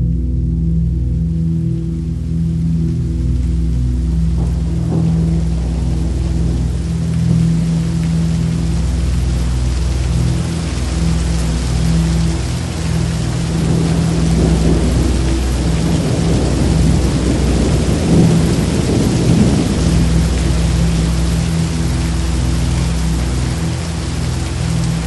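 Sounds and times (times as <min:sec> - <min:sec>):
heavy rain pouring: 0:00.0 - 0:25.0
low steady hum: 0:00.0 - 0:25.0
thunder rumbling: 0:02.6 - 0:25.0.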